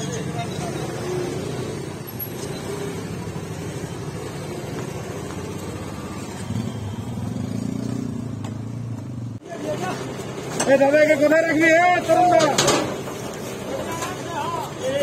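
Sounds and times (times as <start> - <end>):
truck engines rumbling: 0.0 - 15.0.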